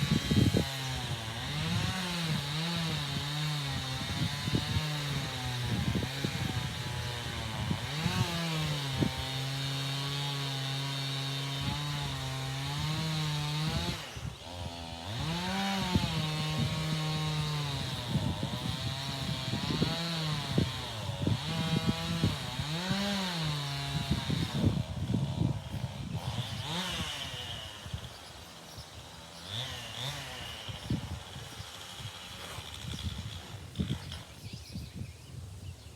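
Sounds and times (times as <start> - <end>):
chainsaw cutting wood: 0.0 - 35.6.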